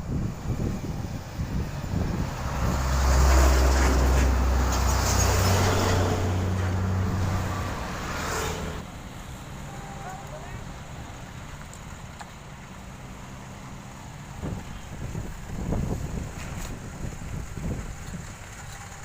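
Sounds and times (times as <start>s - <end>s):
heavy construction vehicle engine: 0.0s - 19.0s.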